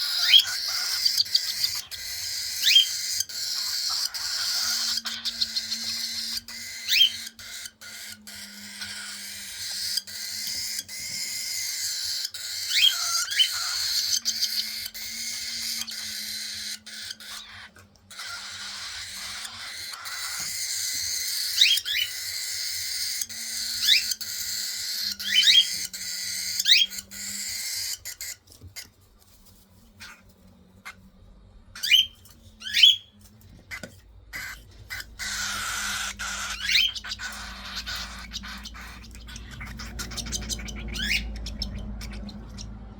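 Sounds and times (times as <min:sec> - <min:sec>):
baby birds begging calls: 0:00.0 - 0:28.9, 0:31.8 - 0:33.1, 0:33.7 - 0:42.9.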